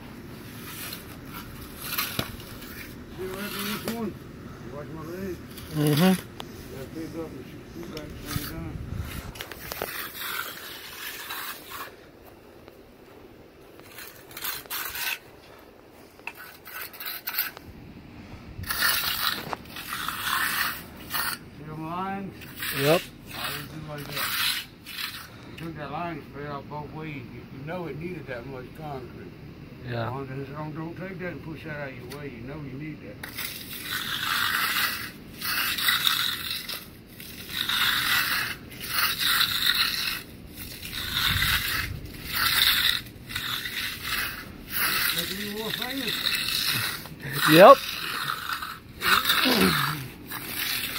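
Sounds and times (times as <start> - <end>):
trowels scraping wet concrete: 0.2 - 12.8, 13.7 - 17.6, 18.6 - 26.6, 31.6 - 50.9.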